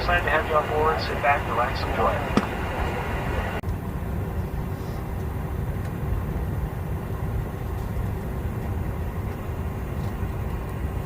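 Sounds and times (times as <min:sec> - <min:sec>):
airliner cabin low rumble: 0:00.0 - 0:11.0
faint steady hum: 0:00.0 - 0:11.0.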